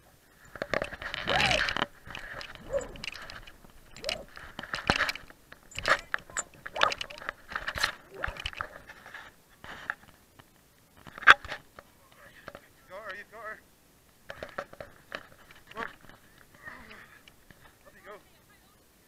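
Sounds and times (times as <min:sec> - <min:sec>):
harness and rope rustling: 0:00.0 - 0:13.2, 0:14.1 - 0:18.3.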